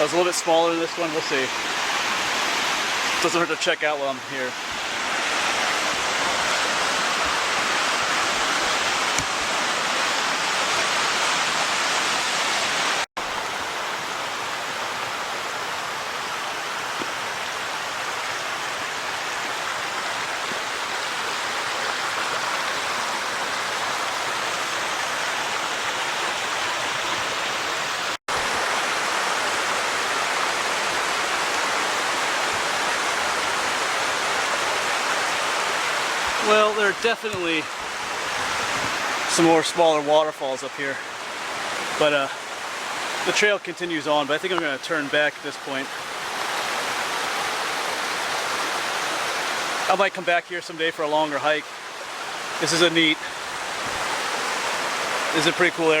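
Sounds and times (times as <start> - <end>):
creek rushing over waterfalls: 0.0 - 56.0.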